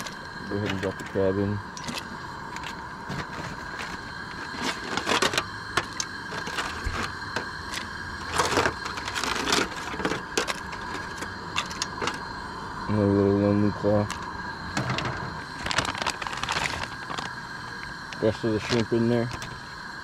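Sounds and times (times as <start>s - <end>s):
boiling water: 0.0s - 20.0s.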